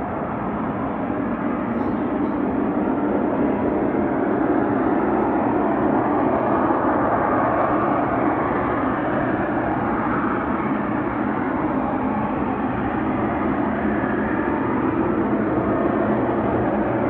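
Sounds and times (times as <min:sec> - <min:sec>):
loud drone in the sky: 0:00.0 - 0:17.0.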